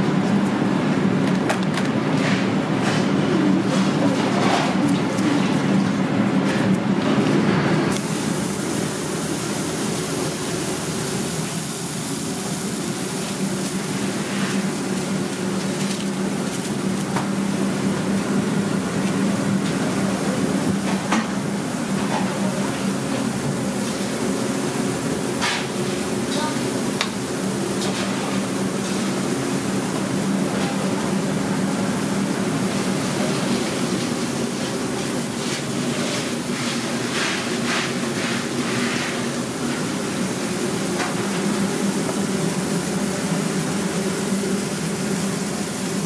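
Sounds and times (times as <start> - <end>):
kitchen hum: 0.0 - 46.0.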